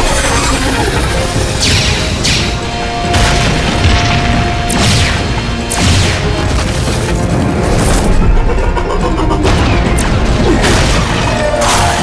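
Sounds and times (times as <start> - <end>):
action music: 0.0 - 12.0.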